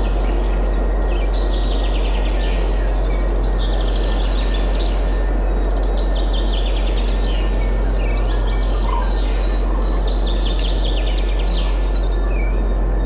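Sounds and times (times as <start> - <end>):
birds singing trills and chirps: 0.0 - 13.0
constant deep rumble: 0.0 - 13.0.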